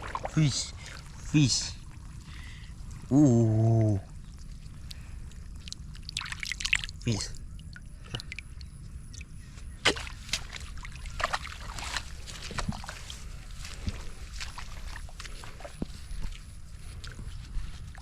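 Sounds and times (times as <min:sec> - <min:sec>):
floodwater sloshing and splashing: 0:00.0 - 0:03.0, 0:04.1 - 0:07.0, 0:07.6 - 0:18.0.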